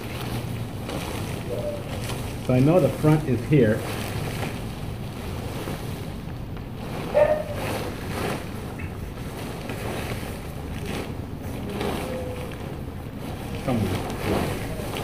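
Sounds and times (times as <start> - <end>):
tent fabric rustling and flapping: 0.0 - 15.0.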